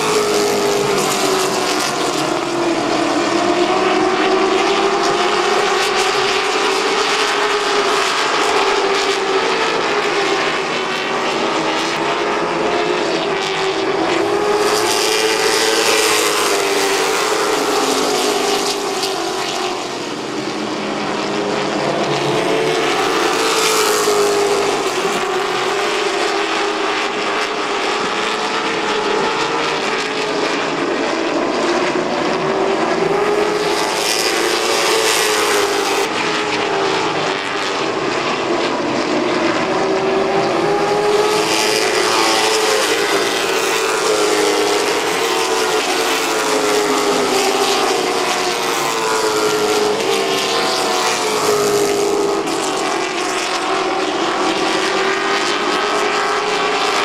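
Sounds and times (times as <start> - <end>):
racing car engines: 0.0 - 57.0.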